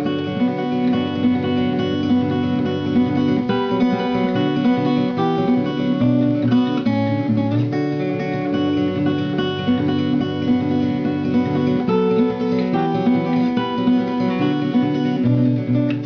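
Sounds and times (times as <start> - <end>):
strummed acoustic guitar music: 0.0 - 16.0.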